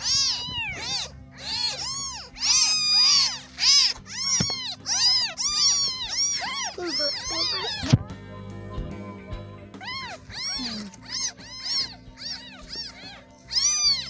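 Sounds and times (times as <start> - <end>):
kittens mewing: 0.0 - 8.2, 9.7 - 14.0.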